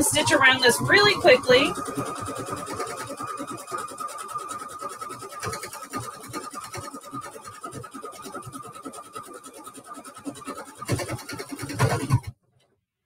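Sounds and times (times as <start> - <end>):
sewing machine stitching: 0.0 - 12.3.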